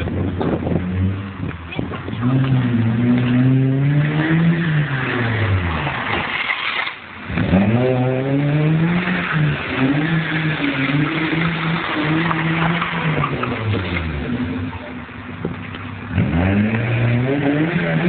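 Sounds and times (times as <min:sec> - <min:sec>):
car engine revving with loud exhaust: 0:00.0 - 0:18.0.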